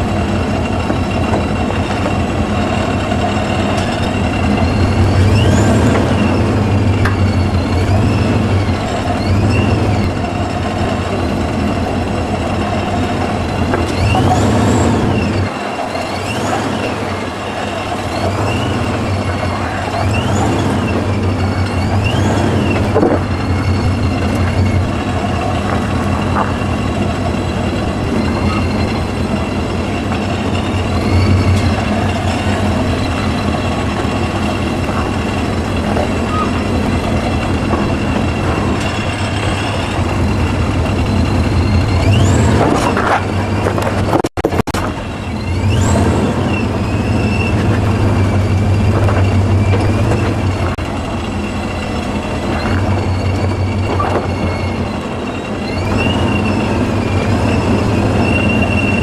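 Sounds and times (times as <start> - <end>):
high squeals: 0.0 - 59.0
off-road vehicle engine running: 0.0 - 59.0.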